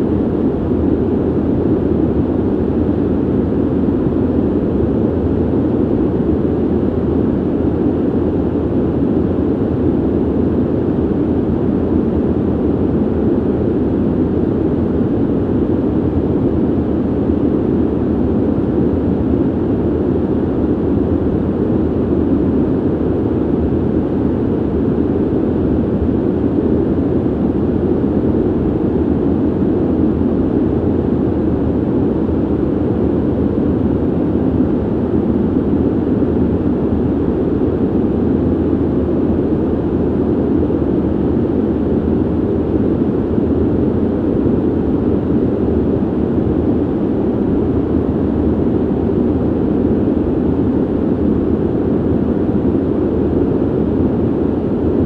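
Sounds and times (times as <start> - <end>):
ventilation air rush: 0.0 - 55.0.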